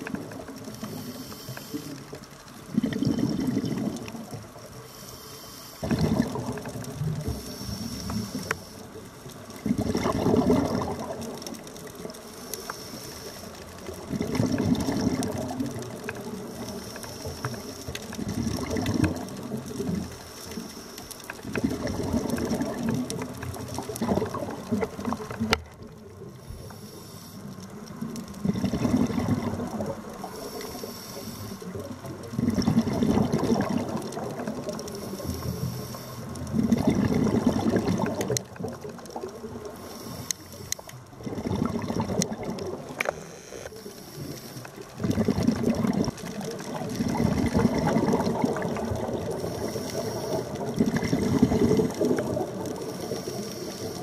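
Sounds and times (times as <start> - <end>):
background hiss: 0.0 - 54.0
underwater breath bubbling: 0.0 - 54.0.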